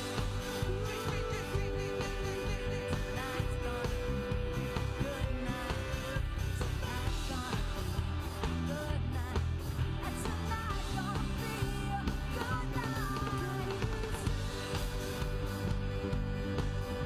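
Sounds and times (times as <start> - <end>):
person singing lead vocal: 0.0 - 17.0
pop-rock band playing: 0.0 - 17.0.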